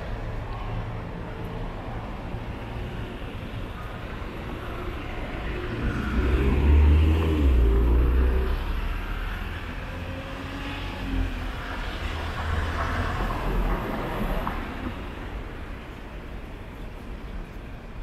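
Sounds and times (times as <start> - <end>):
passing vehicle rumble: 0.0 - 15.9
city traffic noise: 0.0 - 18.0.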